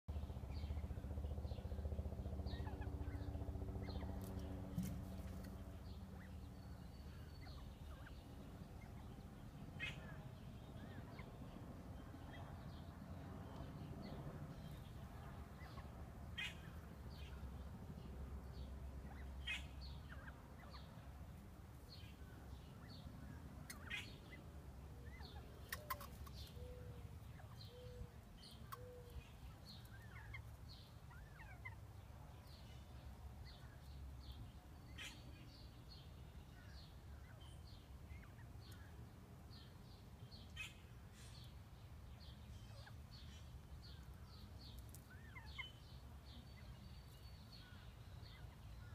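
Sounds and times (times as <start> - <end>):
low background rumble: 0.1 - 48.9
quail chirps and peeps: 2.5 - 17.6, 18.6 - 48.9.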